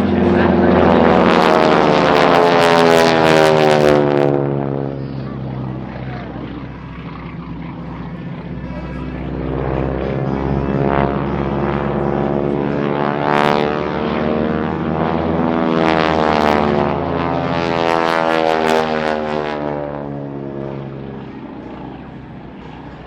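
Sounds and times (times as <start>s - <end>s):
propeller planes flying past: 0.0s - 23.0s.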